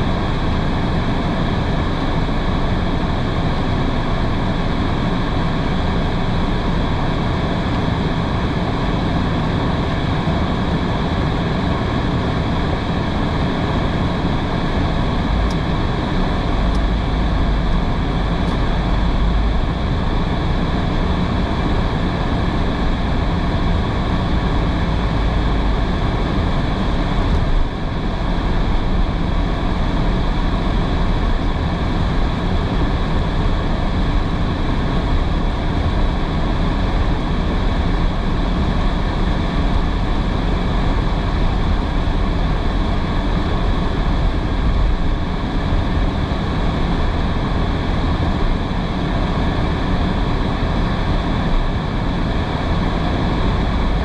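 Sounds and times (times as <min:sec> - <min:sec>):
deep engine rumble: 0:00.0 - 0:54.0.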